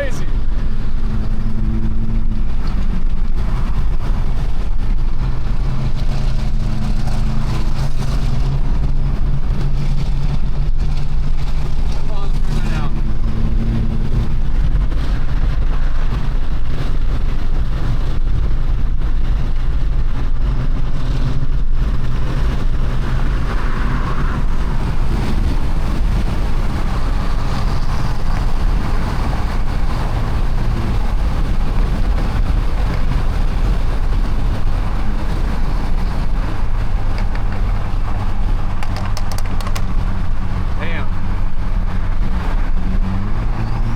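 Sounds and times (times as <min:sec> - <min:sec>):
car engine droning: 0:00.0 - 0:43.9.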